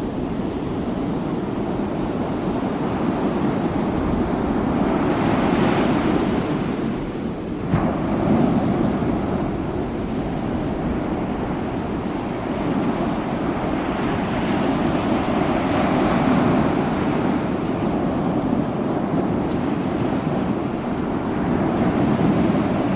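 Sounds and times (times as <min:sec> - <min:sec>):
ocean waves breaking: 0:00.0 - 0:22.9.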